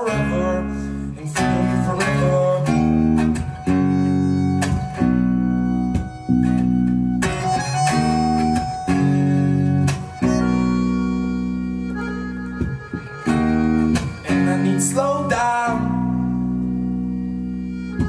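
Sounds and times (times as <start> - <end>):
bass: 0.0 - 18.0
strummed guitar chords: 0.0 - 18.0
sustained accordion tones: 0.0 - 18.0.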